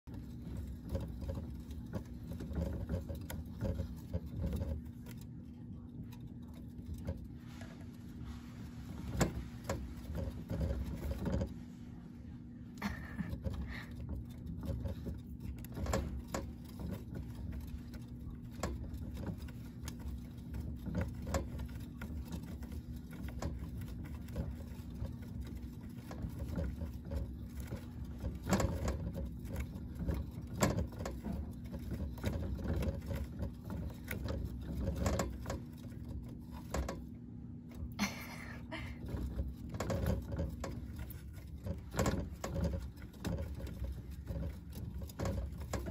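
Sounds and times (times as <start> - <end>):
plastic hamster wheel rattling: 0.0 - 11.7, 12.7 - 38.0, 38.6 - 45.9.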